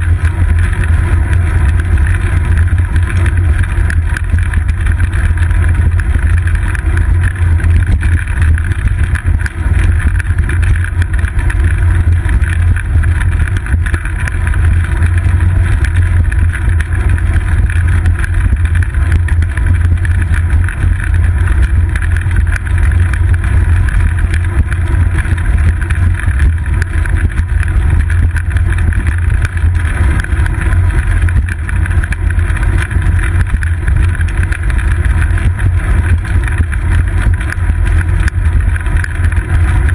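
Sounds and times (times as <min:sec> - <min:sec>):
bicycle ride vibration rumble: 0:00.0 - 0:39.9.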